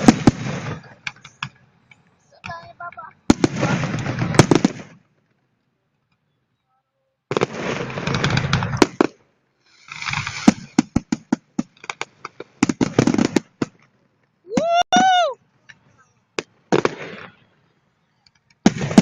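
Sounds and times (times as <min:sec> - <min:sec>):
fireworks rumbling burst: 0:00.0 - 0:05.3, 0:07.3 - 0:14.0, 0:15.8 - 0:19.0
fireworks cracks and pops: 0:00.0 - 0:05.5, 0:07.3 - 0:09.2, 0:09.8 - 0:17.5, 0:18.1 - 0:19.0.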